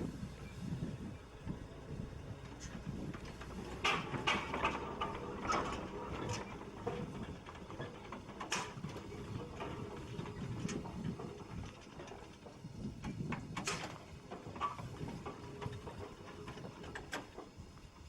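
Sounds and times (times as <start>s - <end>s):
steam road roller rumbling: 0.0s - 18.0s
metallic clanks and clicks: 2.5s - 17.9s.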